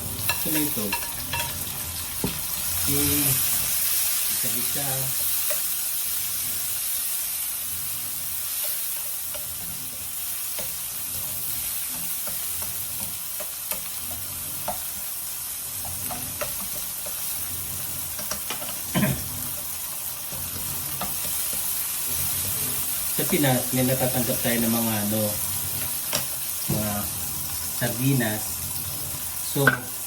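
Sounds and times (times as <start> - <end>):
spatula scraping a pan: 0.0 - 30.0
vegetables sizzling in oil: 0.0 - 30.0.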